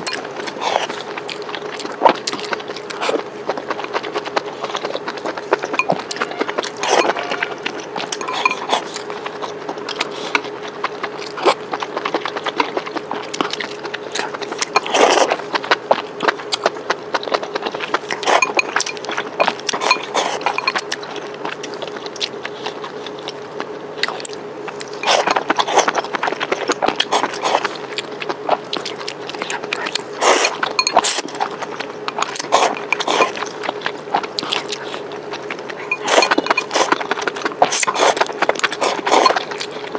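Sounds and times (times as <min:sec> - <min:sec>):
faint hum: 0:00.0 - 0:39.9
person chewing crunchy food: 0:00.0 - 0:39.9.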